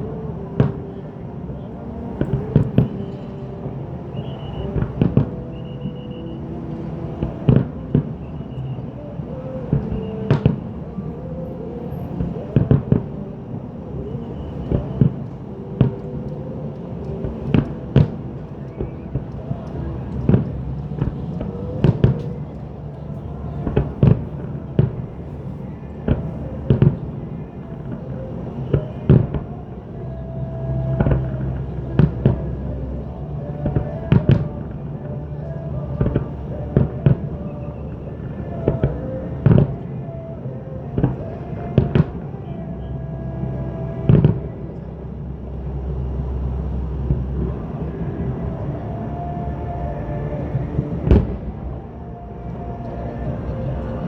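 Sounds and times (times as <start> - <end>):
music playing: 0.0 - 54.0.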